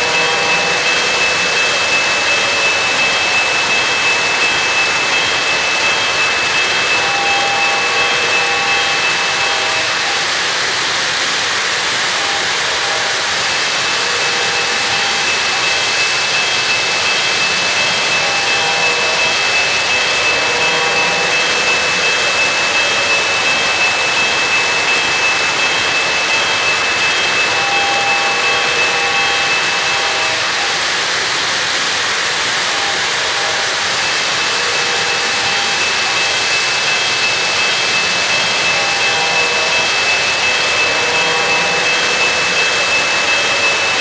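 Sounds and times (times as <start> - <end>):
model train wheels rolling: 0.0 - 44.0
thin high whine: 0.0 - 44.0.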